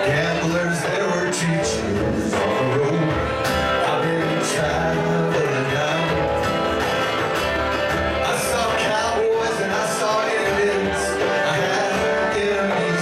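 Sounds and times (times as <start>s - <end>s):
live country-rock band: 0.0s - 13.0s.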